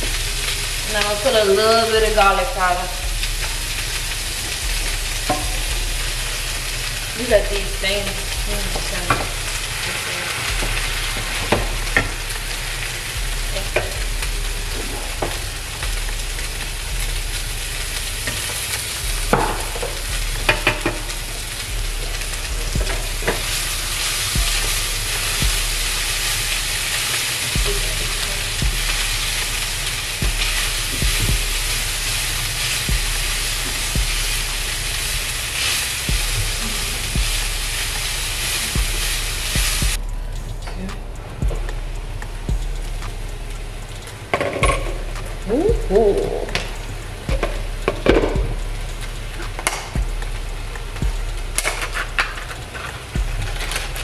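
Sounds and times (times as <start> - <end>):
meat sizzling in frying pan: 0.0 - 40.4, 41.8 - 54.0.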